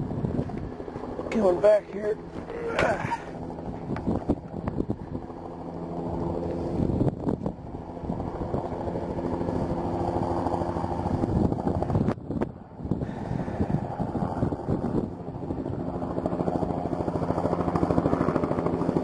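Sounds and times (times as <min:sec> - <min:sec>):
helicopter rotor and turbine drone: 0:00.0 - 0:19.0.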